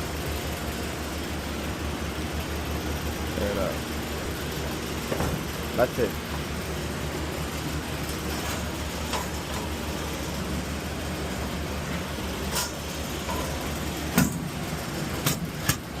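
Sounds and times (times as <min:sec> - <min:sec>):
air-handling equipment drone: 0:00.0 - 0:16.0.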